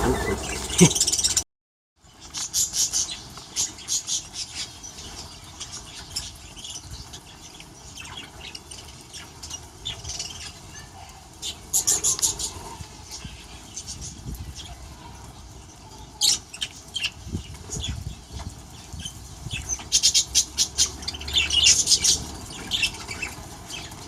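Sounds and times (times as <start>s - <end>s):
small birds chirping: 0.0s - 1.4s, 2.0s - 24.0s.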